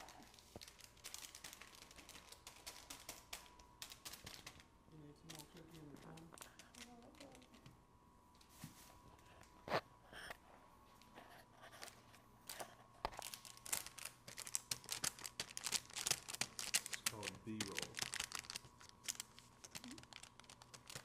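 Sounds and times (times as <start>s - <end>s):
paper and plastic bag crinkling: 0.0s - 7.7s, 11.7s - 21.0s.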